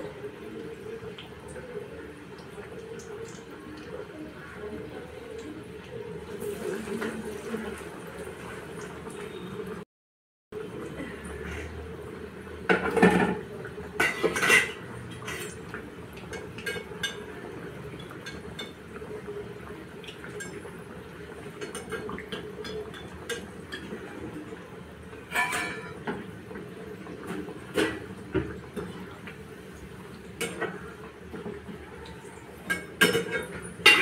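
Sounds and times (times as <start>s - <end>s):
food deep-frying in oil: 0.0s - 9.8s, 10.6s - 34.0s.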